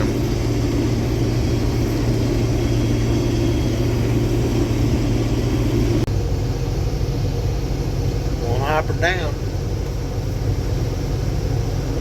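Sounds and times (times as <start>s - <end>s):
farm machine engine drone: 0.0s - 12.0s.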